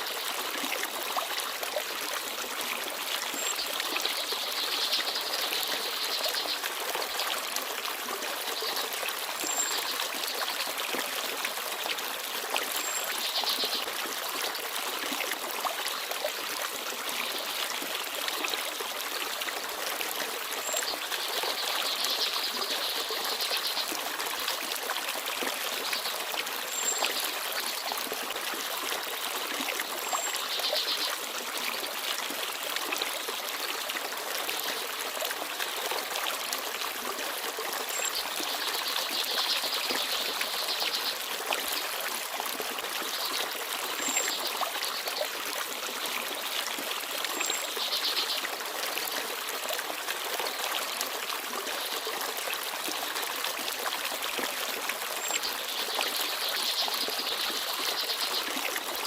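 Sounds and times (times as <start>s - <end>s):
stream babbling and trickling: 0.0s - 59.0s.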